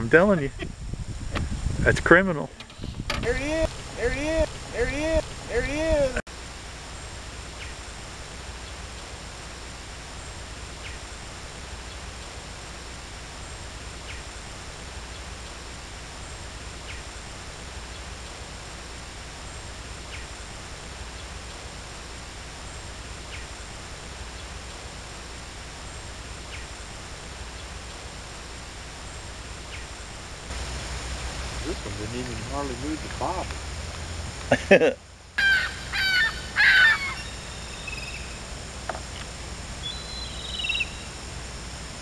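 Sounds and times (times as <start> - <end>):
rushing outdoor ambience: 0.0 - 42.0.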